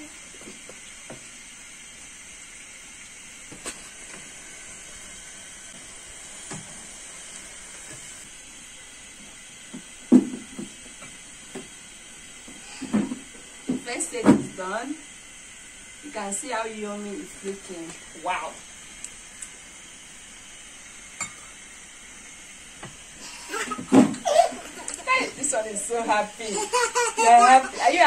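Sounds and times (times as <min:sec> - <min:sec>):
fritters sizzling in hot oil: 0:00.0 - 0:28.0.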